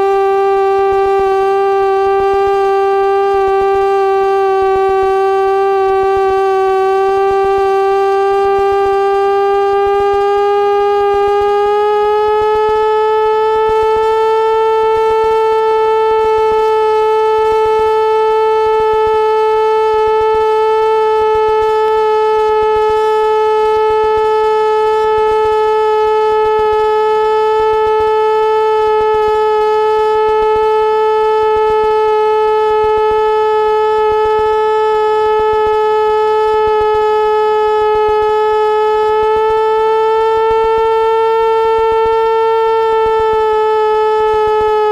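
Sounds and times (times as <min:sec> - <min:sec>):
airplane engine and propeller drone: 0:00.0 - 0:44.9.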